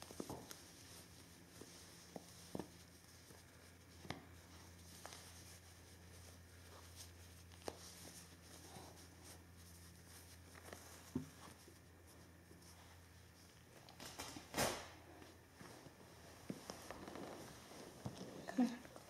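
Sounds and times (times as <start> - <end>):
hands rustling fabric: 0.0 - 14.5, 15.1 - 19.0
low steady hum: 0.0 - 19.0.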